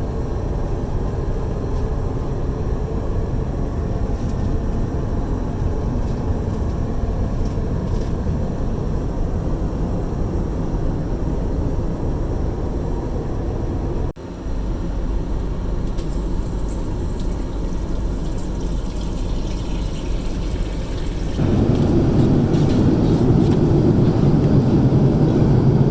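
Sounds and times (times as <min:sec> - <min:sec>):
airliner cabin rumble: 0:00.0 - 0:25.9.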